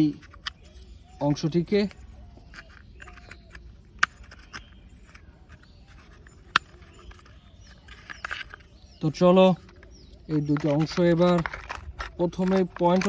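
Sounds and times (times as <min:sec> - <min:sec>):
plastic rubbing and tapping: 0:00.0 - 0:13.0
sharp plastic clicks: 0:00.0 - 0:13.0.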